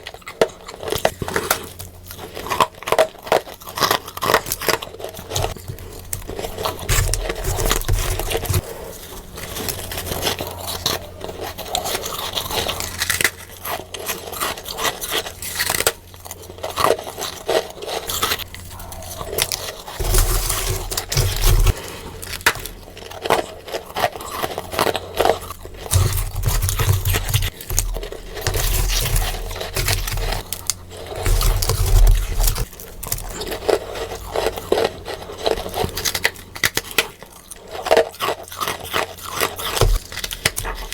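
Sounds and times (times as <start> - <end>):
crunching frost: 0.0 - 40.9.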